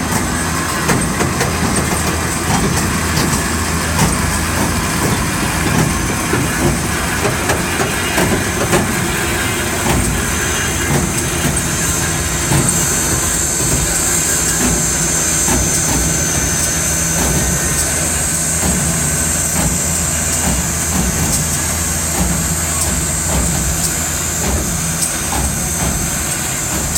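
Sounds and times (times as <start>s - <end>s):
low mechanical drone: 0.0s - 26.9s
steam hissing: 0.0s - 26.9s.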